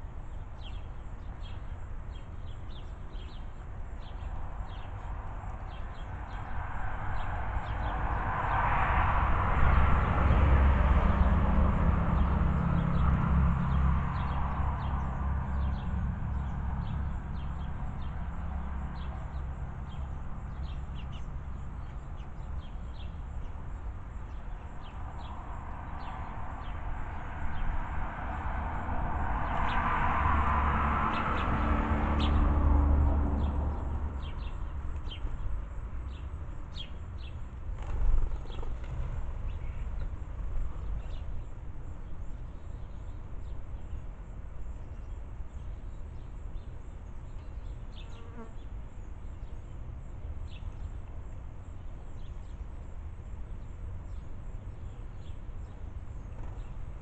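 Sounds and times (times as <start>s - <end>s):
sparrows chirping: 0.0s - 8.2s, 12.1s - 27.8s, 31.1s - 32.5s, 33.4s - 57.0s.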